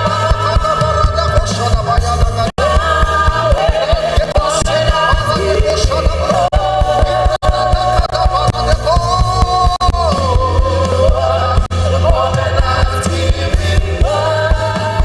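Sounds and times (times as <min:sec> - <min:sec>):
band with drumbeat and bass: 0:00.0 - 0:15.0.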